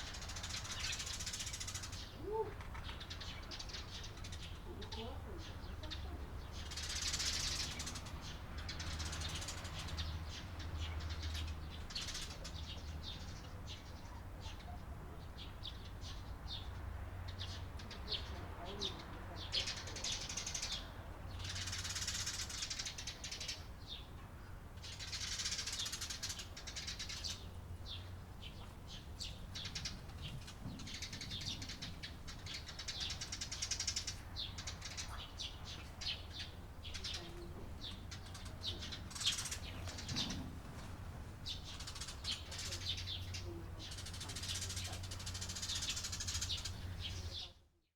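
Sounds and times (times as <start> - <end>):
sparrows chirping: 0.0 - 47.7.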